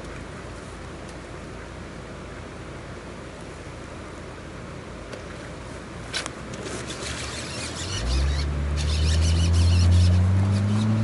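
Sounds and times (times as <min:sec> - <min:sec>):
motor vehicle engine hum: 0:00.0 - 0:11.0.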